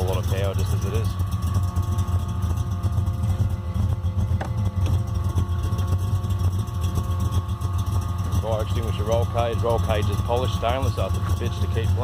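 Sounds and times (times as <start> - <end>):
car engine idling lumpily: 0.0 - 12.0.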